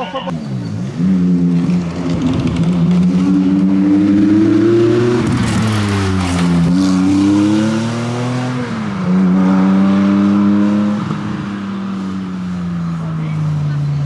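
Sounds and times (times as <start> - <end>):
rally car engine under load: 0.0 - 14.0.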